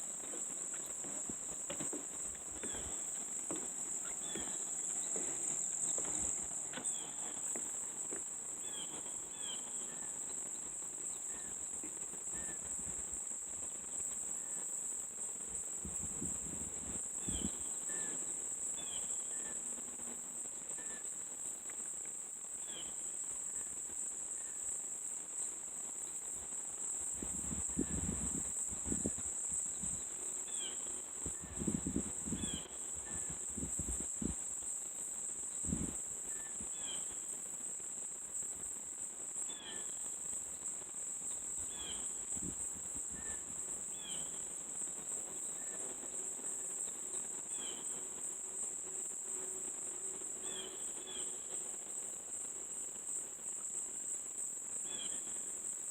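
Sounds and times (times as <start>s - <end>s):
insects chorus: 0.0s - 55.9s.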